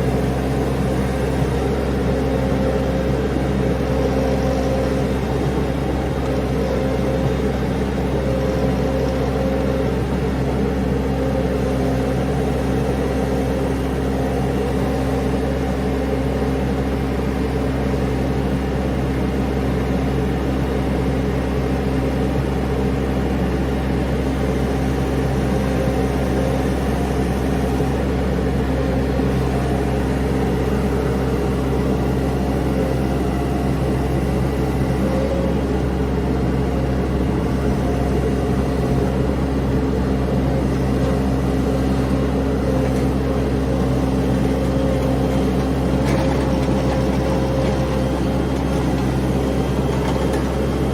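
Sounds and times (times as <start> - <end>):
skid steer engine running: 0.0 - 50.9.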